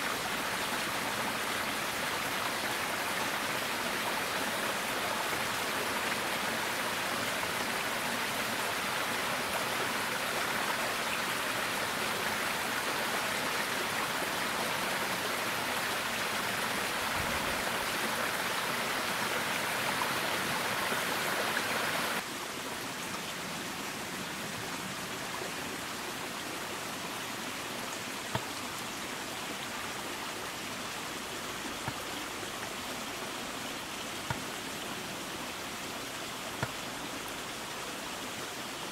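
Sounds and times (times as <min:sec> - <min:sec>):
stream rushing over stones: 0:00.0 - 0:38.9.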